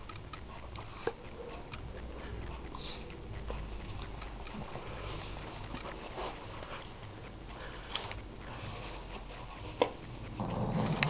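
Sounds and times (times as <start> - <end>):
dog breathing and snorting: 0.0 - 11.0.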